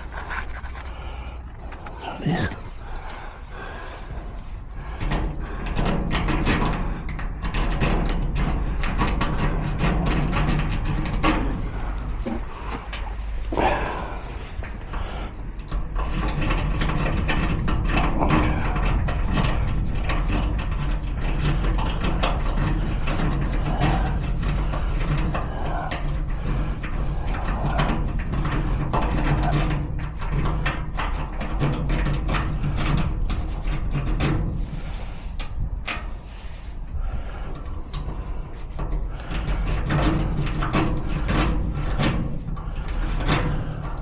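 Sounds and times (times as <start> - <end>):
lock-picking tools clicking and scraping: 0.0 - 44.0
steady low hum: 0.0 - 44.0.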